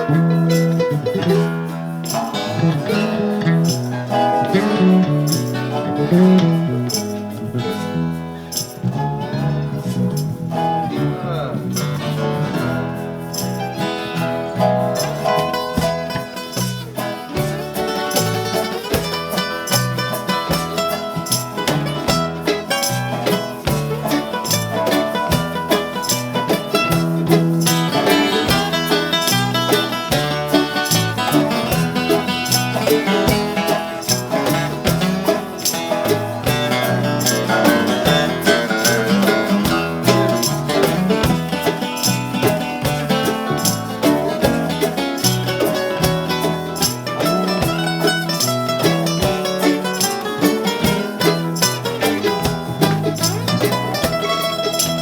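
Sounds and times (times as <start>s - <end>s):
bass line: 0.0s - 55.0s
guitars: 0.0s - 55.0s
steady drum beat: 10.0s - 55.0s.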